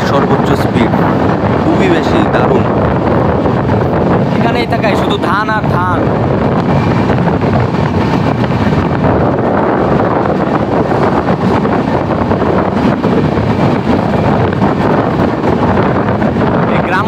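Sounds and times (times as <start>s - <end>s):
fast passenger train running: 0.0s - 17.0s
wind buffeting microphone: 0.0s - 17.0s.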